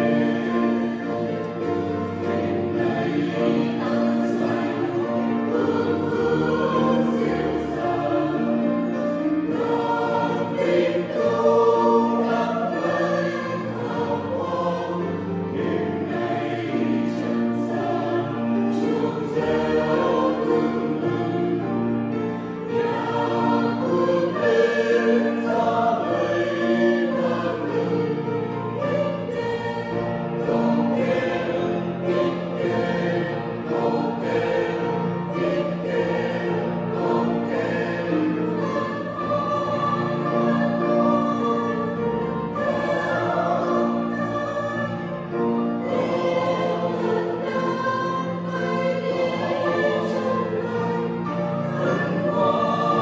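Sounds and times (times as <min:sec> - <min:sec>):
mixed choir singing a hymn: 0:00.0 - 0:53.0.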